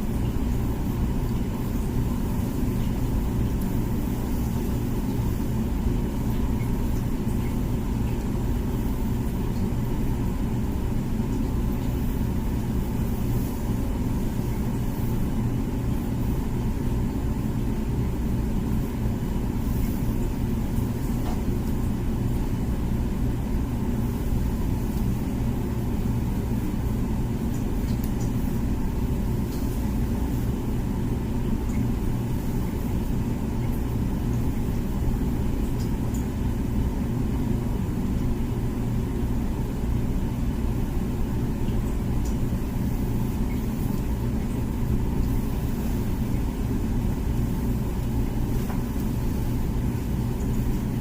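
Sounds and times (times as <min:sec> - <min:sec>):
dishwasher pump rumble and hum: 0:00.0 - 0:51.0.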